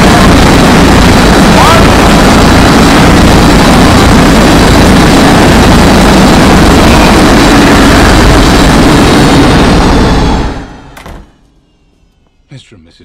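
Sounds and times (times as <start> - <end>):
loud distorted roar: 0.0 - 10.9.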